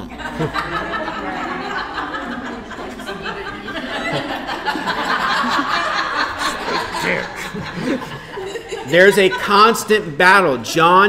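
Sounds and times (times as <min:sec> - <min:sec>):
people laughing together: 0:00.0 - 0:11.0.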